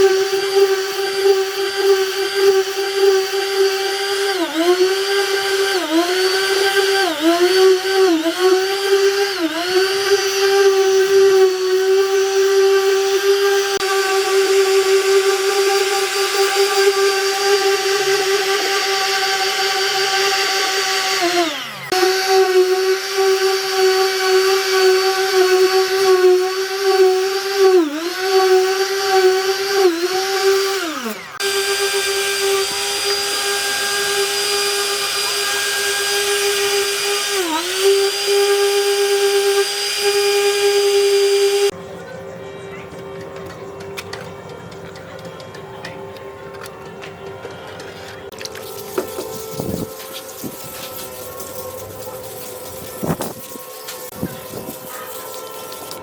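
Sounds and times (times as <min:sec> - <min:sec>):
electric power tool whining: 0:00.0 - 0:41.8, 0:46.2 - 0:56.0.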